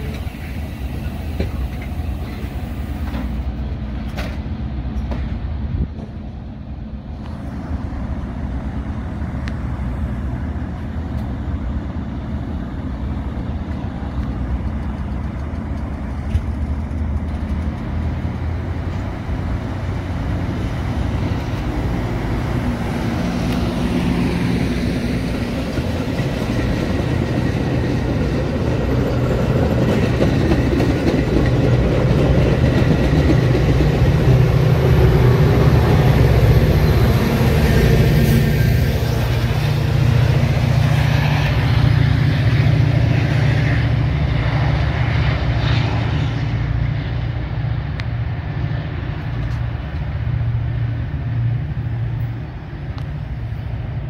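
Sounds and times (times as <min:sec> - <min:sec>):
diesel locomotive engine: 0:00.0 - 0:54.0
train wheels rumbling on rail: 0:00.0 - 0:54.0.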